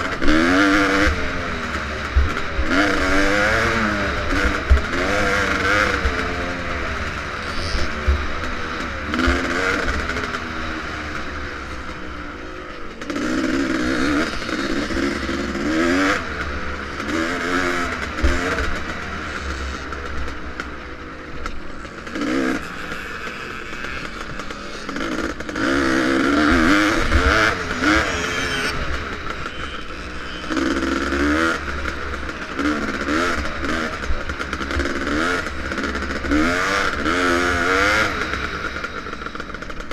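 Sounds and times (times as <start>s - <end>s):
motocross motorcycle engine racing: 0.0s - 39.9s.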